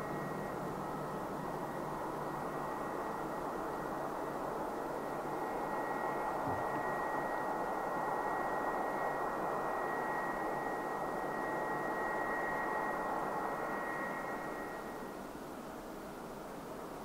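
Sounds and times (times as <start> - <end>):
jet engines whining at taxi: 0.0 - 17.0.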